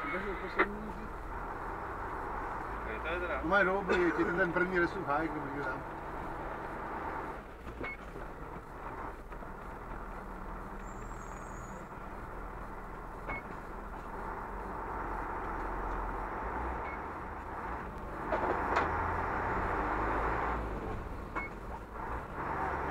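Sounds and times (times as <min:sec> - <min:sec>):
road and tyre noise: 0:00.0 - 0:22.9
truck engine running: 0:00.0 - 0:22.9.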